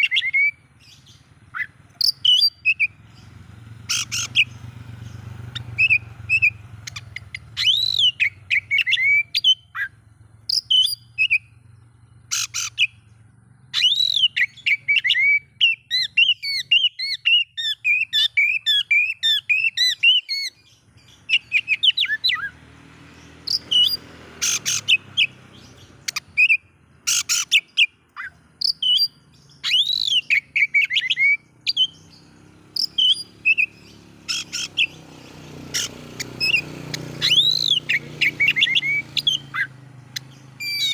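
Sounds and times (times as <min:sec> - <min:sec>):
songbird whistling and chirping: 0:00.0 - 0:40.9.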